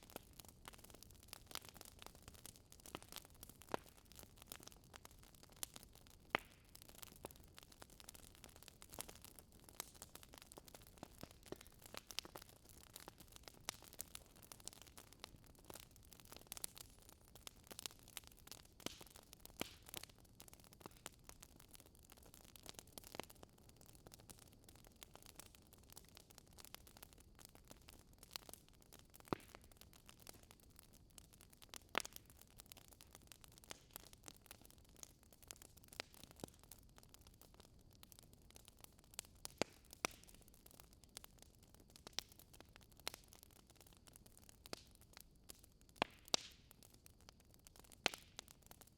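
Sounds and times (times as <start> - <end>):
fire popping and snapping: 0.0 - 48.9
wood fire crackling: 0.0 - 48.9.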